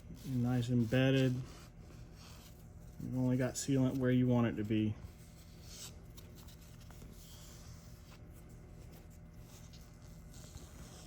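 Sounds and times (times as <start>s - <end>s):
faint rubbing and scratching: 0.0s - 11.0s.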